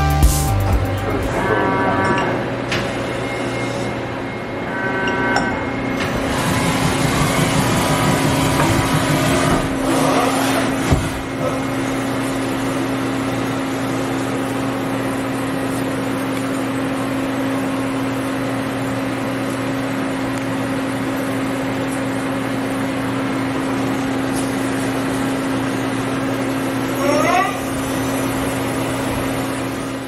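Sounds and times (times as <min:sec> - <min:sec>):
lathe spinning with steady hum: 0:01.1 - 0:30.0.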